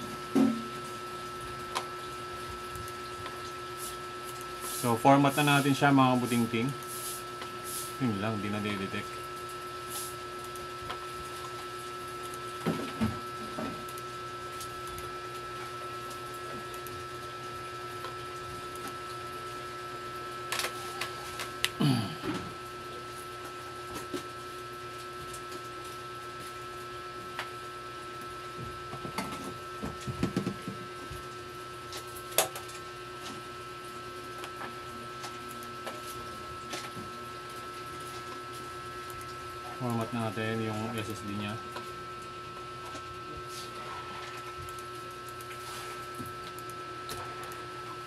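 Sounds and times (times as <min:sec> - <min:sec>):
electrical hum with whine: 0:00.0 - 0:48.0.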